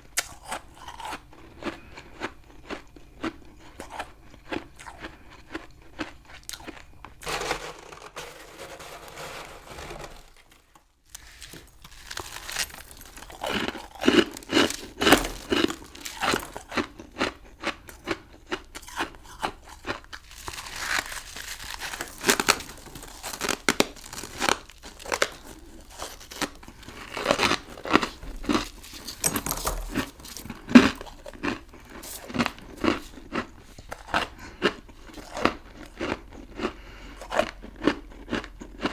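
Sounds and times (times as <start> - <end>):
crunching and chewing frost: 0.0 - 38.9.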